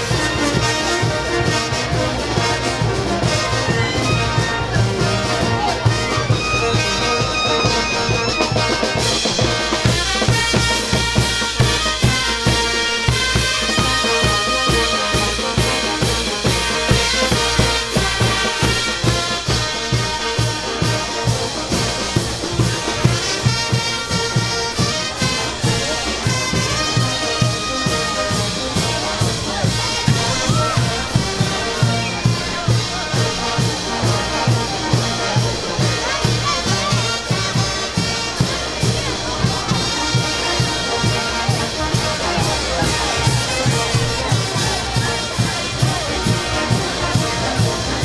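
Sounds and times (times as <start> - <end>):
brass band playing: 0.0 - 48.0
drum beat: 0.0 - 48.0.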